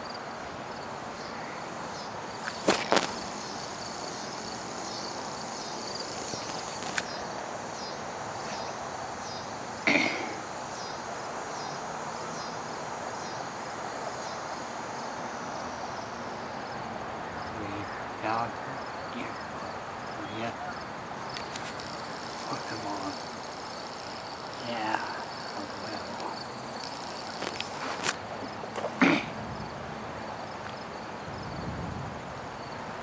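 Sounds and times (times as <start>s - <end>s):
background hiss: 0.0s - 33.0s
insects chirping: 0.0s - 33.0s.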